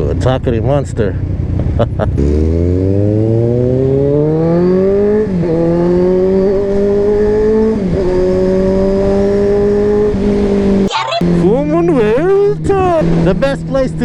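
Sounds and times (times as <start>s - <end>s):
motorcycle engine accelerating hard: 0.0s - 14.0s.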